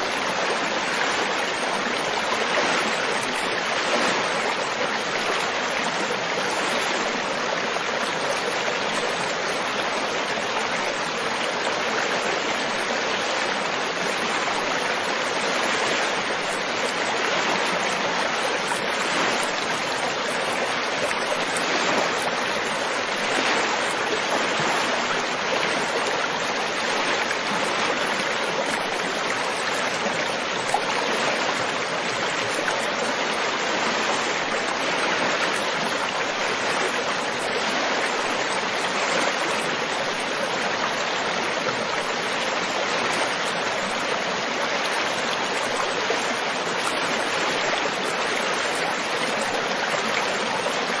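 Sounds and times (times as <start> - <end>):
stream water flowing: 0.0 - 51.0.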